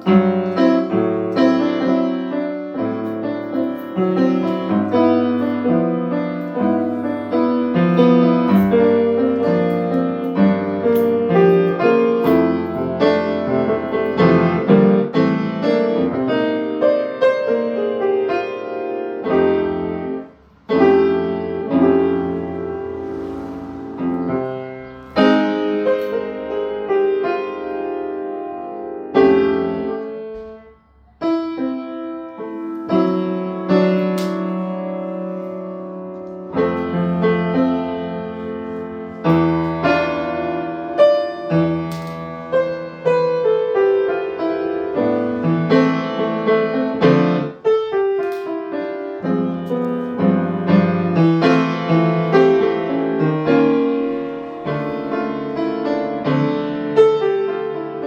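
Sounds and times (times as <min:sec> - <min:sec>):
solo piano playing: 0:00.0 - 0:58.0.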